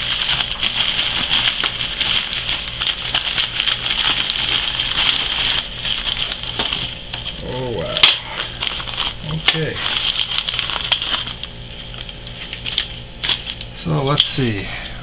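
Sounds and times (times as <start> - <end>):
packing material crinkling: 0.0 - 14.6.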